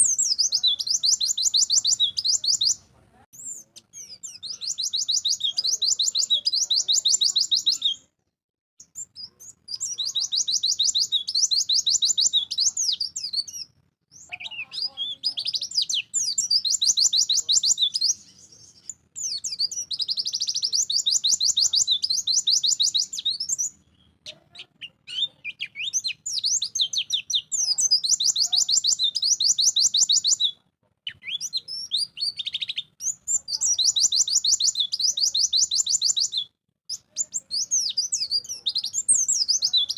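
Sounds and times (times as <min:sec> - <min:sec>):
bird chattering trills: 0:00.0 - 0:02.8, 0:03.4 - 0:08.0, 0:08.9 - 0:13.6, 0:14.2 - 0:39.9.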